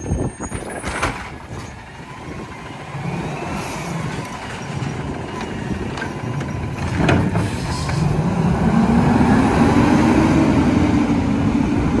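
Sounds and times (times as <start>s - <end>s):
truck engine revving: 1.0s - 12.0s.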